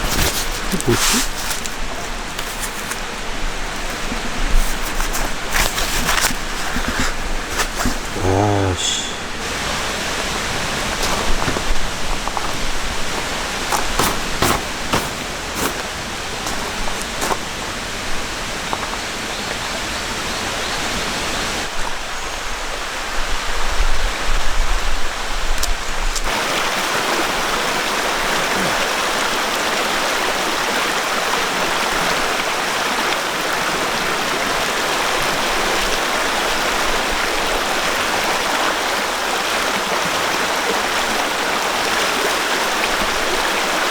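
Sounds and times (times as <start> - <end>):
mountain stream flowing: 0.0 - 22.0, 26.2 - 43.9.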